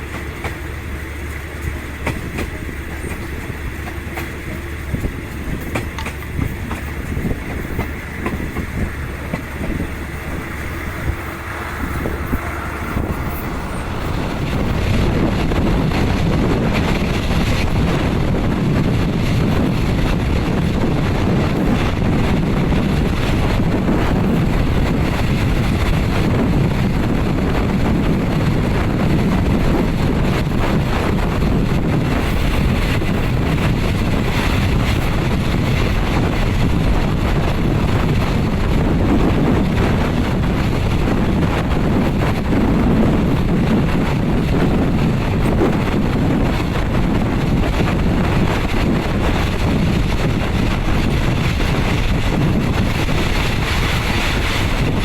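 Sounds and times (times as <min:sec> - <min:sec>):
train running noise inside coach: 0:00.0 - 0:55.0
wind buffeting microphone: 0:00.0 - 0:55.0.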